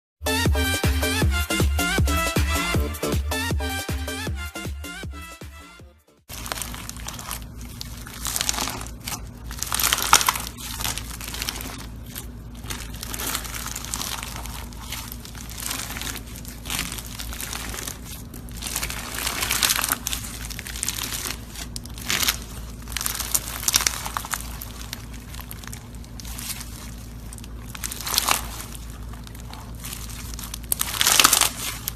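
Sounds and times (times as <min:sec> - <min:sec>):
faint low hum: 0:06.3 - 0:31.9
slime squishing and crackling: 0:06.3 - 0:31.9.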